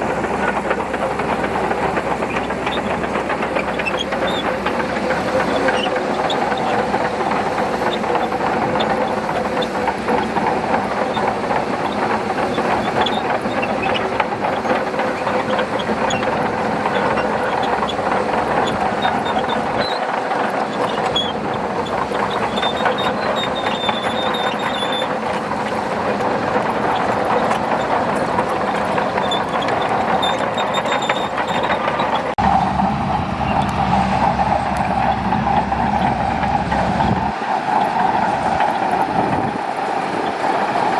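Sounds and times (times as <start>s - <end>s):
bulldozer diesel engine running: 0.0s - 40.9s
steel tracks clattering: 0.0s - 40.9s.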